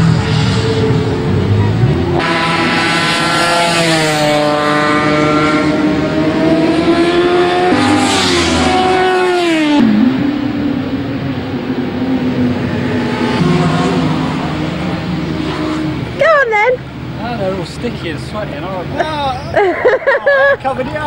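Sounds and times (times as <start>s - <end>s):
motorcycle passing by: 0.0s - 17.6s
racing motorcycle engines revving: 0.0s - 21.0s.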